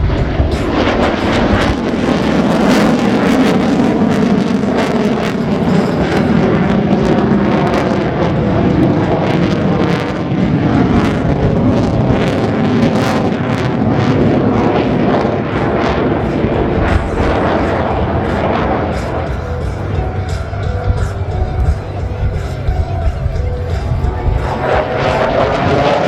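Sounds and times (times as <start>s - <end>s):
fighter jet engine roaring: 0.0s - 26.0s.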